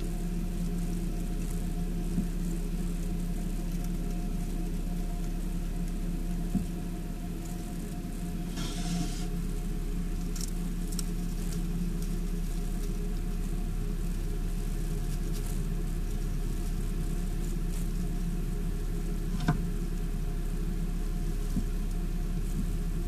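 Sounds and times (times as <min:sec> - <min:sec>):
faint crackles: 0:00.0 - 0:23.0
low background hum: 0:00.0 - 0:23.0.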